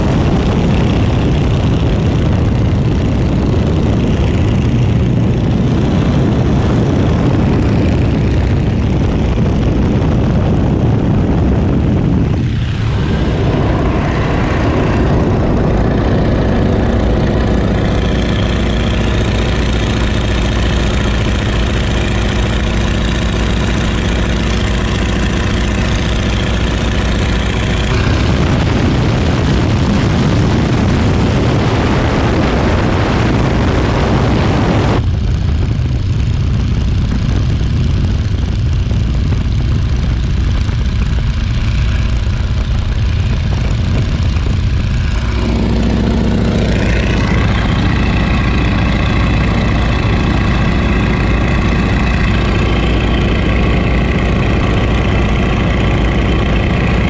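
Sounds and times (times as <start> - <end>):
wind rushing: 0.0 - 39.4, 40.2 - 57.0
propeller aircraft engine running: 0.0 - 57.0.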